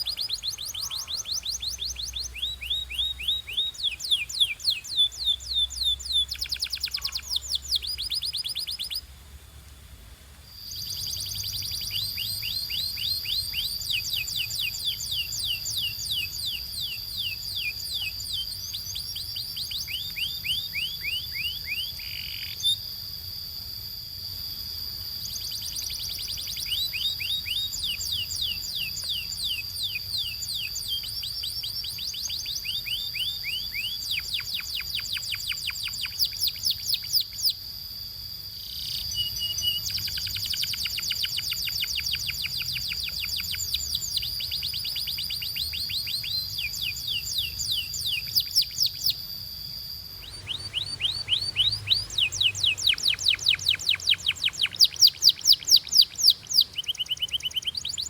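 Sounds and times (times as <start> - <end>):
canary singing trills: 0.0 - 9.1, 10.6 - 23.0, 24.8 - 37.6, 38.4 - 58.0
steady high whistle: 0.0 - 9.1, 10.4 - 58.0.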